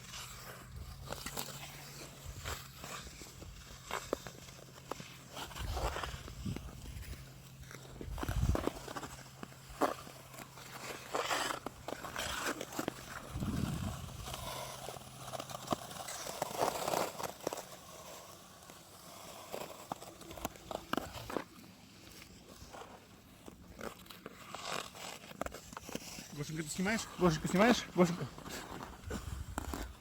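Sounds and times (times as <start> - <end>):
skate blades scraping on ice: 0.0 - 30.0.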